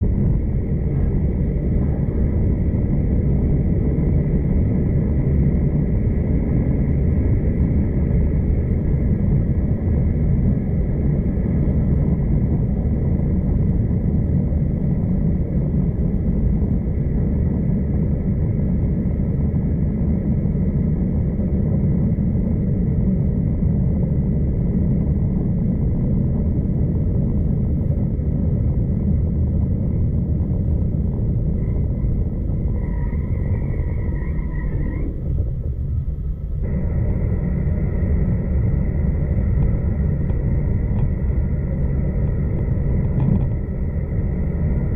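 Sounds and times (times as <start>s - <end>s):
train wheels rumbling: 0.0s - 21.4s, 24.4s - 44.9s
faint high whine: 0.0s - 44.9s.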